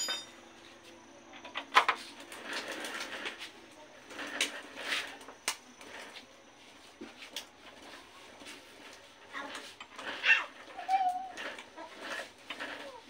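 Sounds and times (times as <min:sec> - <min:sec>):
metal scraping: 0:02.0 - 0:13.0.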